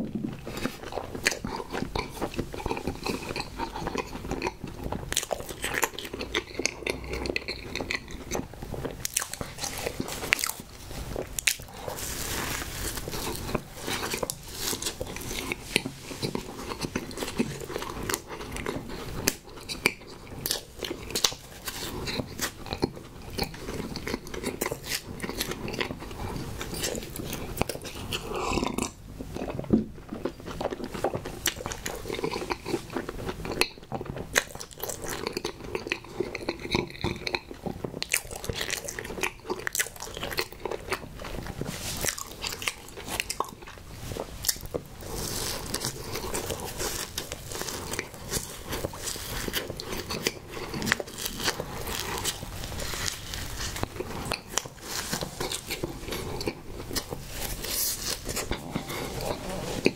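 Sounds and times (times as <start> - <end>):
close-miked biting and chewing: 0.0 - 59.9.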